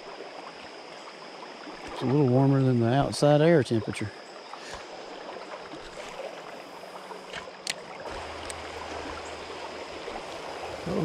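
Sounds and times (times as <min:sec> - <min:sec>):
river current flowing: 0:00.0 - 0:11.0.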